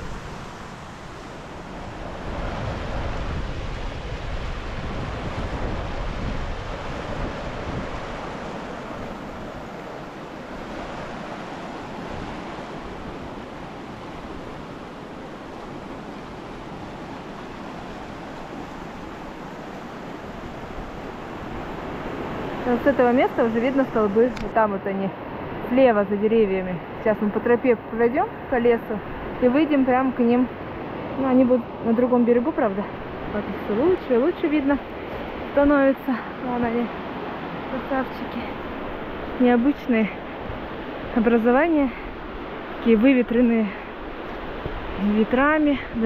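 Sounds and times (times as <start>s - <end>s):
mountain river rushing: 0.0s - 46.0s
wind gusting on microphone: 0.0s - 46.0s.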